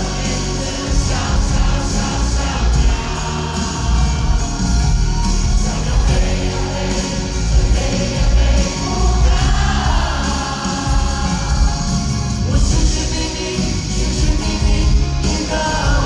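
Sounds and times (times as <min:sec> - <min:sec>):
pop-rock band playing: 0:00.0 - 0:16.0
voices singing: 0:00.0 - 0:16.0.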